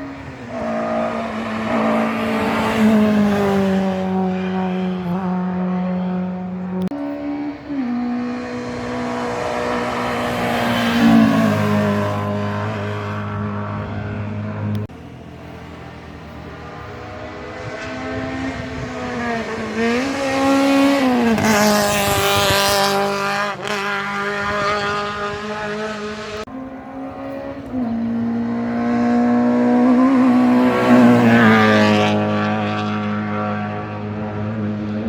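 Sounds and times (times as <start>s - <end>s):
racing car engines accelerating past: 0.0s - 35.0s.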